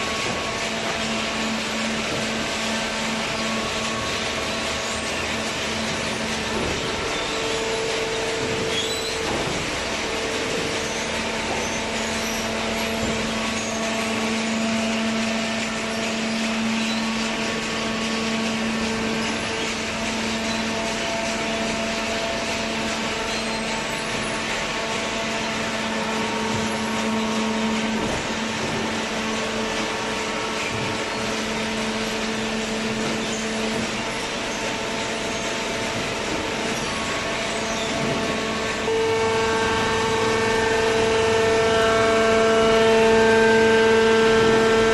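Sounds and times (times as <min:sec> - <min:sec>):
machine hum and whine: 0:00.0 - 0:44.9.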